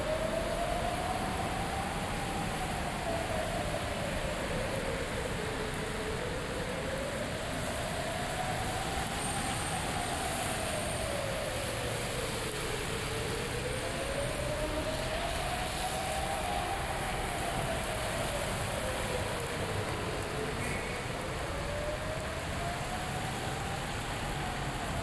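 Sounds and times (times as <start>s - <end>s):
siren wailing: 0.0s - 25.0s.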